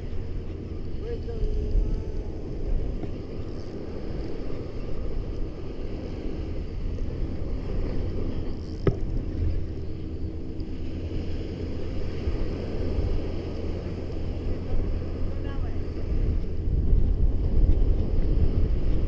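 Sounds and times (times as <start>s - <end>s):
wind and surf rumble: 0.0s - 19.0s.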